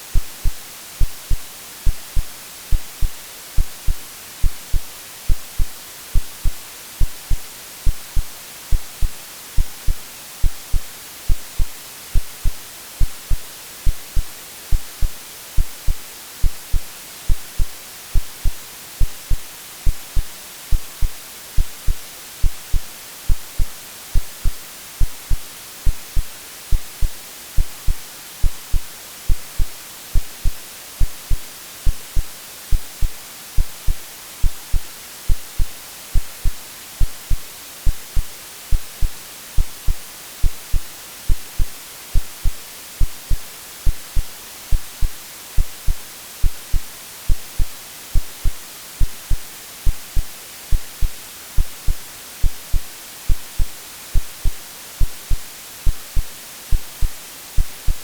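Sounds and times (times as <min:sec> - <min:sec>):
white noise hiss: 0:00.0 - 0:58.0
heartbeat thumps: 0:00.1 - 0:58.0.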